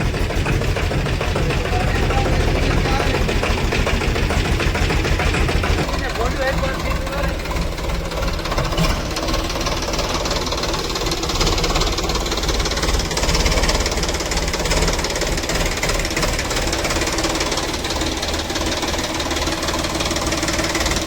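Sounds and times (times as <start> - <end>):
diesel engine running with knocking: 0.0 - 21.0.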